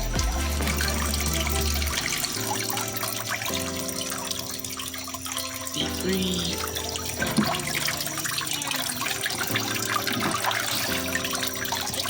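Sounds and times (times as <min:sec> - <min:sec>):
background music with held chords: 0:00.0 - 0:12.0
running water rushing: 0:00.0 - 0:12.0.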